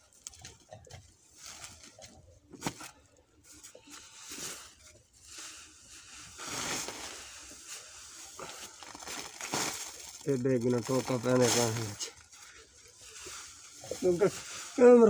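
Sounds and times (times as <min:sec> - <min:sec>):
straw and fodder rustling: 0:00.0 - 0:15.0.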